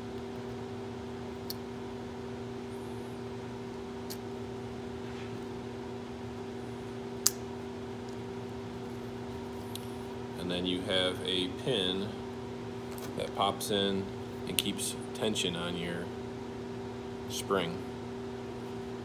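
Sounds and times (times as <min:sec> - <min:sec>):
steady two-tone hum: 0:00.0 - 0:19.0.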